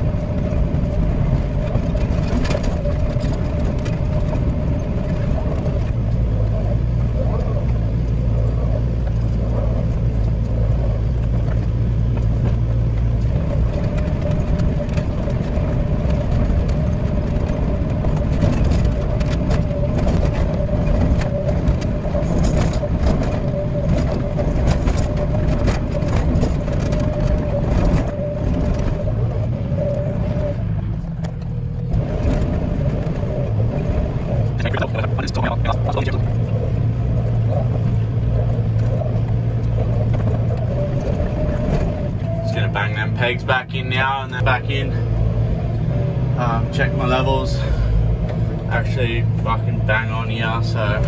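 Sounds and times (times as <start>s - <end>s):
knocks and rattles: 0.0s - 42.3s
excavator diesel engine running: 0.0s - 51.0s
steady whine: 0.0s - 51.0s.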